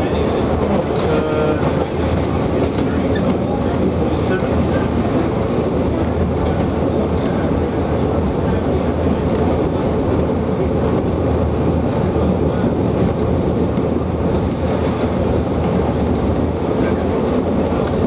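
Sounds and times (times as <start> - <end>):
wheel and rail noise: 0.0 - 18.0.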